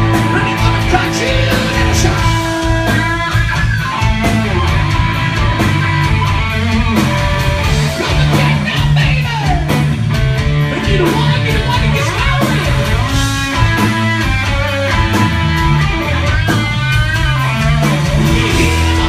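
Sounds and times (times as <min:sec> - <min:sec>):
blues-rock band playing: 0:00.0 - 0:19.0
sliding guitar notes: 0:00.0 - 0:19.0.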